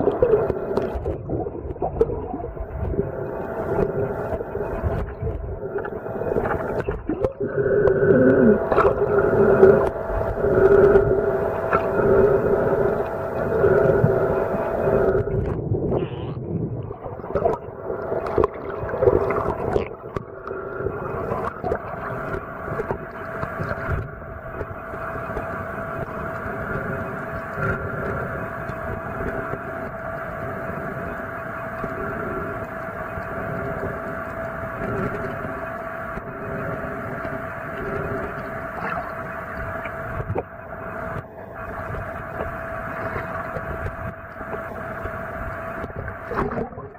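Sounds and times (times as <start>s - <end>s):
water wash: 0.0s - 15.6s, 16.9s - 46.9s
underwater knocks and rustles: 0.0s - 30.8s, 32.7s - 46.9s
droning hum: 0.0s - 46.9s.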